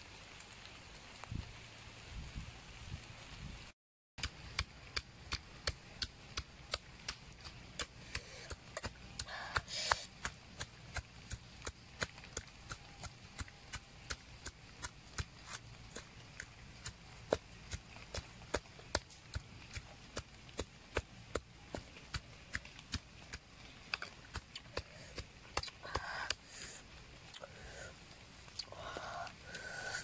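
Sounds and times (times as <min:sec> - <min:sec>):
wood fire crackling: 0:00.0 - 0:03.5, 0:04.2 - 0:30.0.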